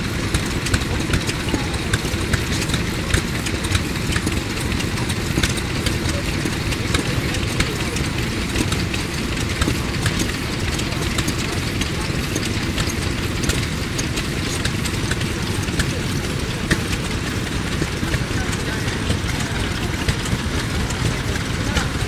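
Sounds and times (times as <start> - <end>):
stationary engine running: 0.0 - 22.0.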